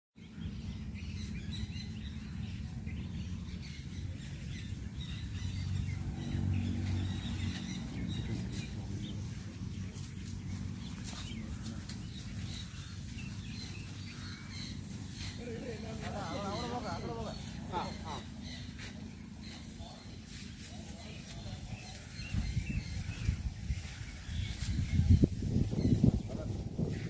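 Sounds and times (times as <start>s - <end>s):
low rumble on microphone: 0.2s - 27.0s
small birds chirping: 0.2s - 27.0s.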